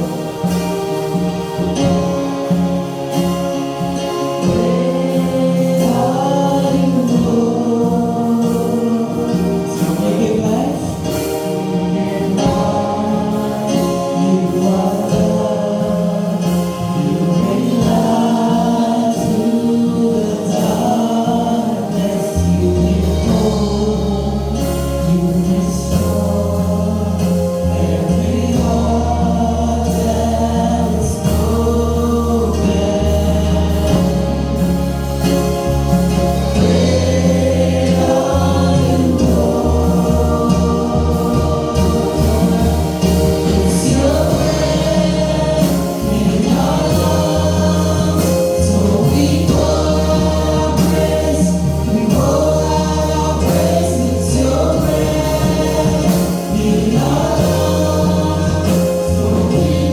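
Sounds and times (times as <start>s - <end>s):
choir singing gospel: 0.0s - 59.9s
deep bass line: 0.0s - 59.9s
instrumental accompaniment: 0.0s - 59.9s.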